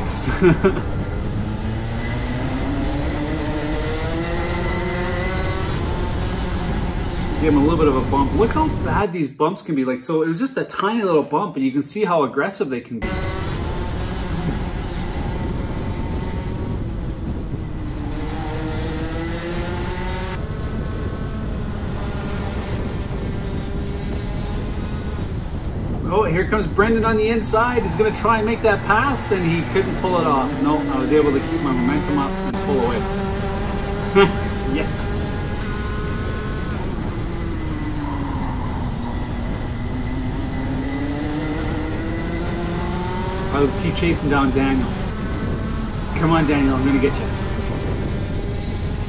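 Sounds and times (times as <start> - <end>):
kart engine running at speed: 0.0 - 9.0, 13.0 - 49.0.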